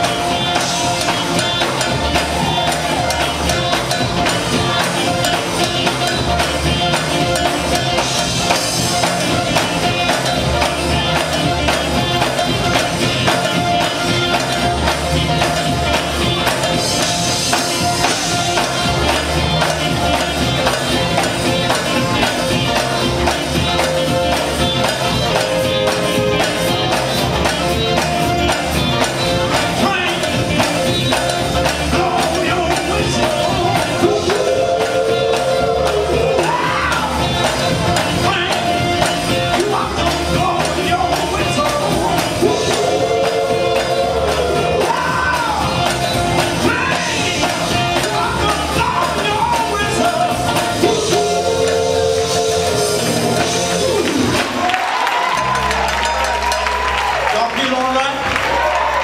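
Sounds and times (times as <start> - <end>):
gospel band playing: 0.0 - 59.0.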